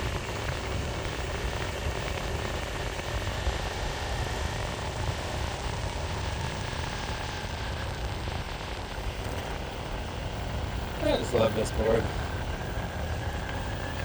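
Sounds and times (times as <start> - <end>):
electric motor whine: 0.0 - 14.0
skateboard wheels rumbling on road: 0.0 - 14.0
wind buffeting microphone: 0.0 - 14.0.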